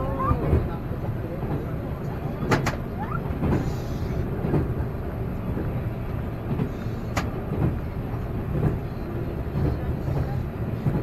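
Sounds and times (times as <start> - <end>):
low rumble of wheels on rails: 0.0 - 11.0.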